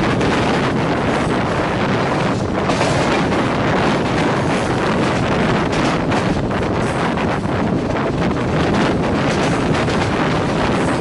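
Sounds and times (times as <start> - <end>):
train running at speed: 0.0 - 11.0
wind buffeting microphone: 0.0 - 11.0.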